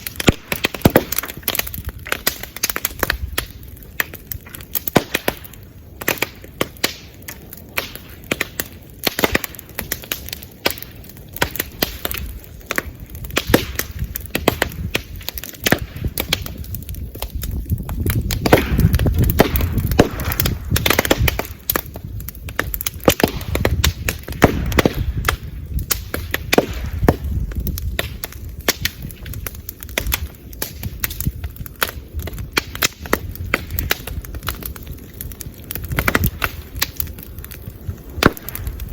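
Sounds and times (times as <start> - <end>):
bamboo fire crackling and popping: 0.0 - 38.9.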